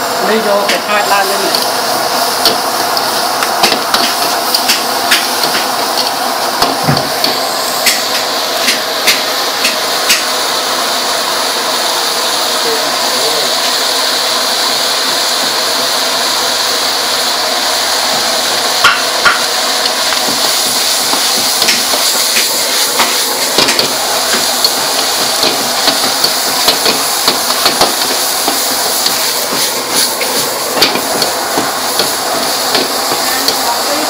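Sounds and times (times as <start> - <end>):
greens sizzling in a wok: 0.0 - 34.0.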